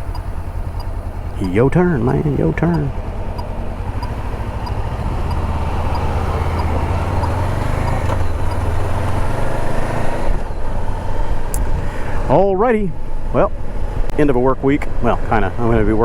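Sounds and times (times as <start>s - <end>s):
motorcycle engine humming: 0.0s - 16.0s
road and wind noise: 0.0s - 16.0s.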